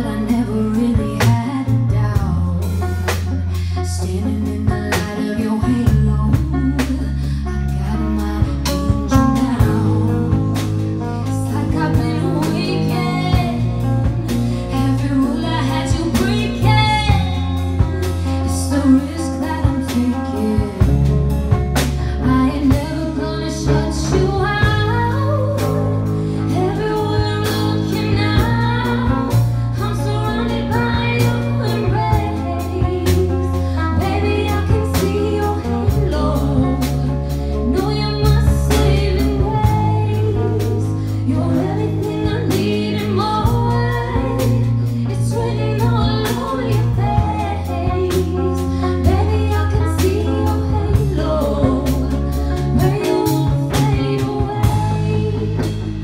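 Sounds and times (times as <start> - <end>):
bass line: 0.0 - 56.0
drum kit: 0.0 - 56.0
electric guitars: 0.0 - 56.0
woman singing into microphone: 0.0 - 56.0.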